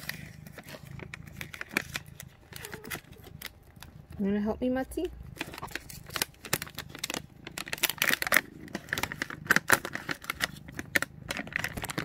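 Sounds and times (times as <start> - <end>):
plastic bag crinkling: 0.0 - 4.3, 5.0 - 12.0.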